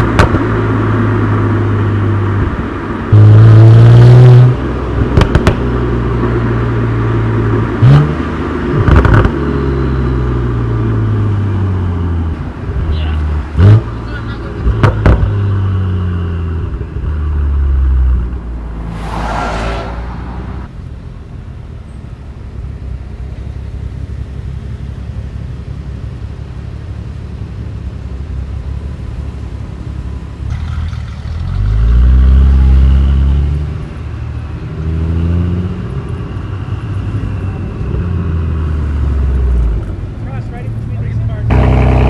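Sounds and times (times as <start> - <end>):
car exhaust drone: 0.0 - 42.0.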